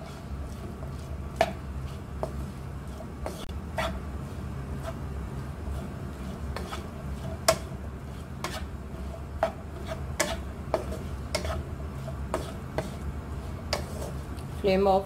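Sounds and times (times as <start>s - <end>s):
steady low hum: 0.0s - 15.0s
wooden spatula scraping a wok: 0.0s - 15.0s.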